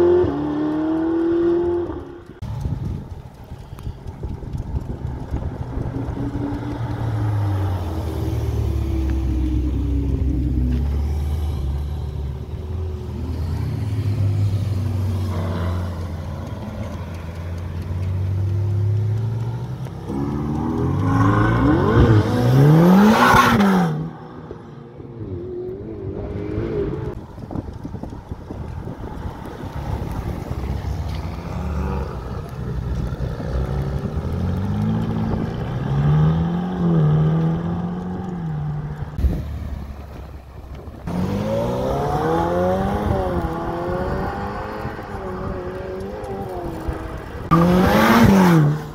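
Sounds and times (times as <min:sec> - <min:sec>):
sports car engine accelerating: 0:00.0 - 0:48.9.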